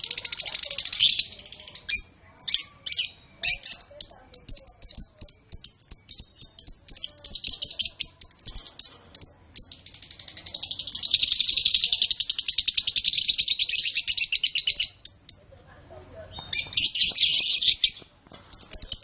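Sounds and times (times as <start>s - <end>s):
canary singing: 0.0s - 15.6s, 16.2s - 19.0s.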